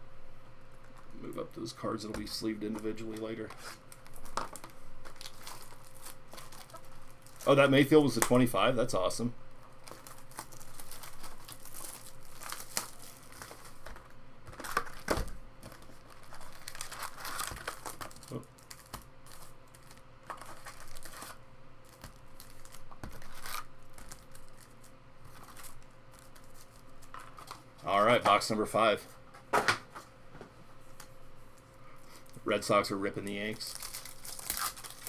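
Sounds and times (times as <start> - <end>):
foil wrappers crinkling and tearing: 0.8 - 28.4, 33.2 - 35.0.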